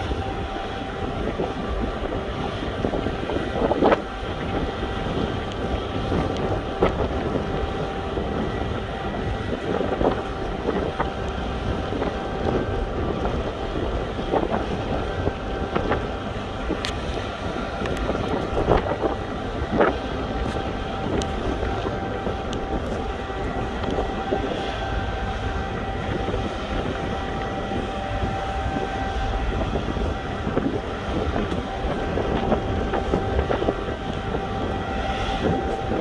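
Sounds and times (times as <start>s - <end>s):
steady machinery hum: 0.0s - 36.0s
wind buffeting microphone: 0.0s - 36.0s.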